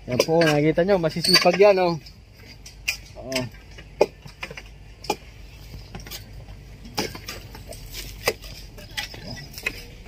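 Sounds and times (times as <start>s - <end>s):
construction work clinks and knocks: 0.0s - 10.0s.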